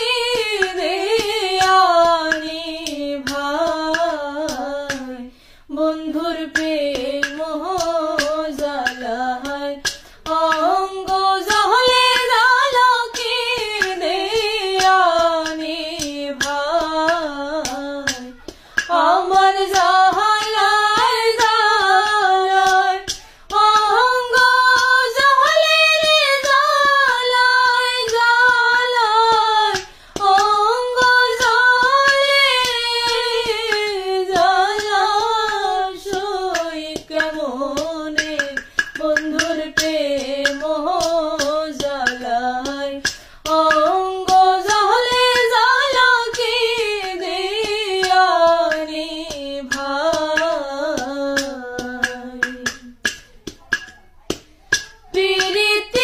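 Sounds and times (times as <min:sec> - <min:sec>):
light clicking beat: 0:00.0 - 0:56.0
woman singing: 0:00.0 - 0:56.0.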